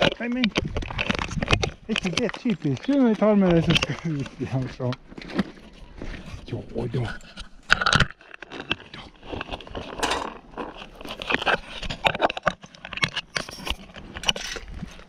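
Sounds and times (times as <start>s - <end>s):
handling noise and rustling: 0.0s - 15.0s.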